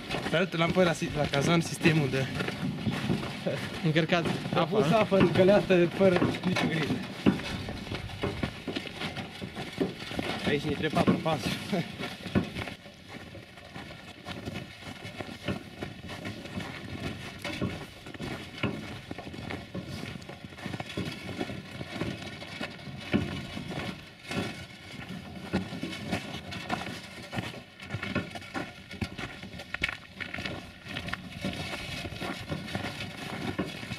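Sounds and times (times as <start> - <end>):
footsteps crunching through snow: 0.0 - 33.9
wheelbarrow wheel rolling over snow: 0.0 - 33.9.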